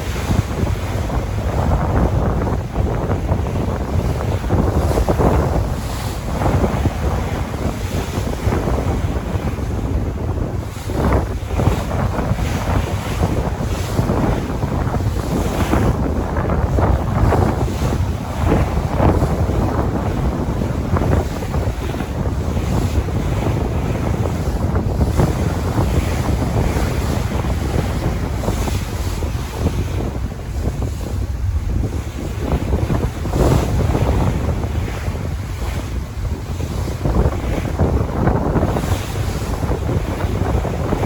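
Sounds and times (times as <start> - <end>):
sea waves washing: 0.0 - 41.0
wind buffeting microphone: 0.0 - 41.0.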